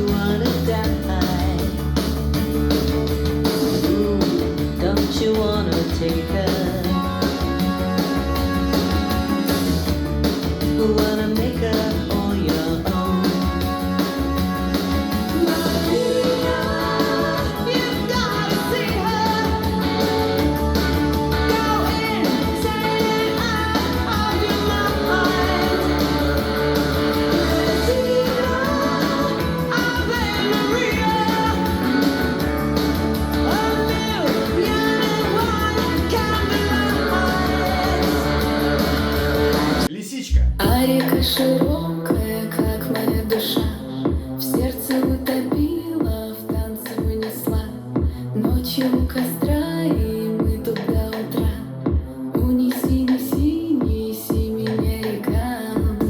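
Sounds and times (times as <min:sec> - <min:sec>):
rock song through speaker: 0:00.0 - 0:56.0.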